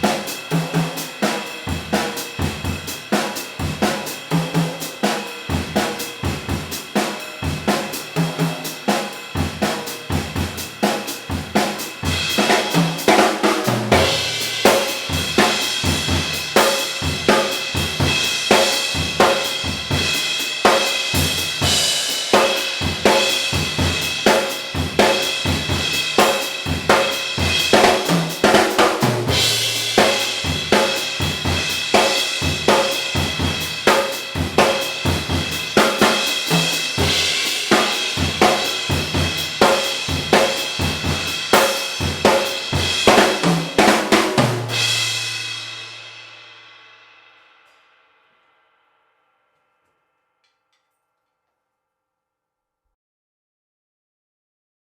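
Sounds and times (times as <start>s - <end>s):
drum kit: 0.0s - 47.8s
trashy crash cymbal hits: 1.5s - 47.9s.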